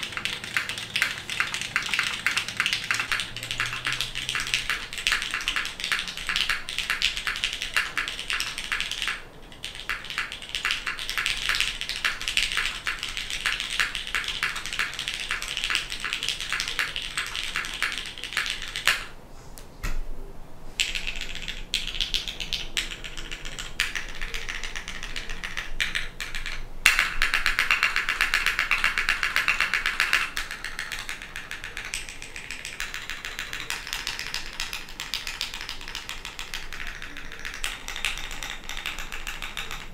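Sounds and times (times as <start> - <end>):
mechanical keyboard typing: 0.0 - 19.1, 20.8 - 39.9.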